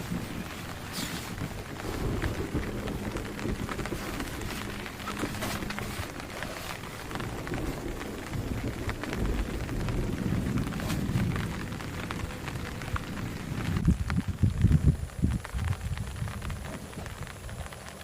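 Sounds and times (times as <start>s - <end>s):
low rumble: 0.0s - 17.9s
rain falling: 0.0s - 18.0s.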